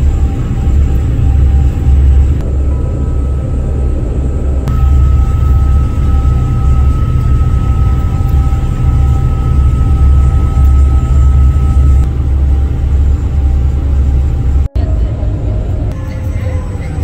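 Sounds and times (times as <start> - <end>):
boat engines droning: 0.0 - 17.0
high whine: 0.0 - 17.0
wind: 0.0 - 17.0.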